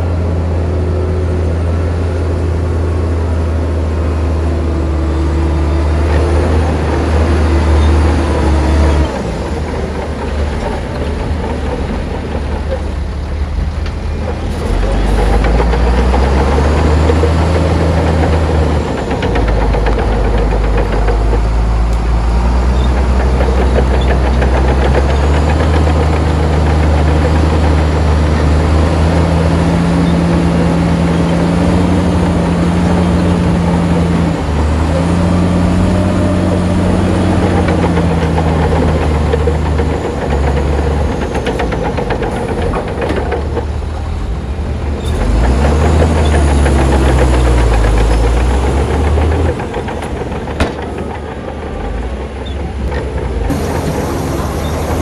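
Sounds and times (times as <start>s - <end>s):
bulldozer diesel engine working: 0.0s - 55.0s.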